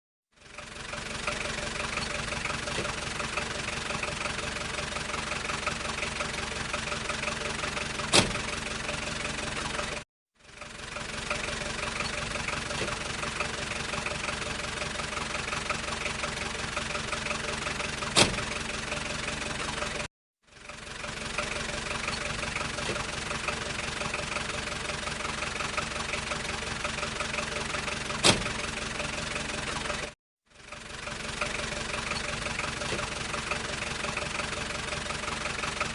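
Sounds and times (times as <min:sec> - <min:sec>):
car engine running: 0:00.3 - 0:35.9.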